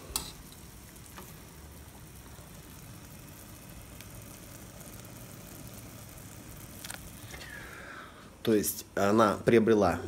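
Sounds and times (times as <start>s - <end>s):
soup boiling with low bubbling: 0.0s - 8.4s.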